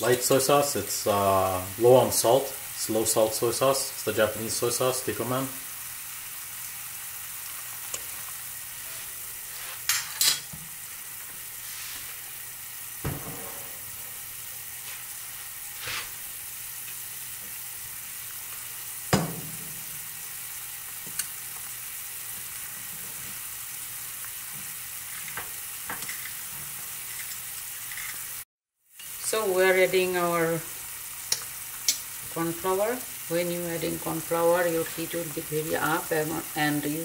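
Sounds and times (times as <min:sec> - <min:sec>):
soup boiling and bubbling: 0:00.1 - 0:09.9, 0:10.7 - 0:36.8.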